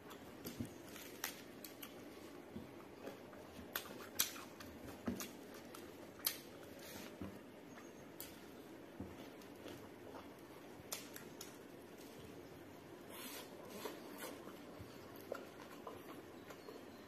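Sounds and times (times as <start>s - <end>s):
chewing food: 0.0s - 6.8s, 7.7s - 12.6s, 13.7s - 17.0s.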